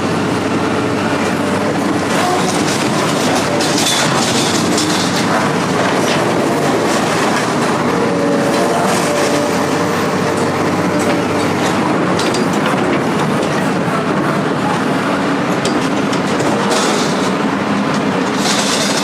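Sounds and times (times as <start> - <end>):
machine rumbling and rattling: 0.0 - 19.0.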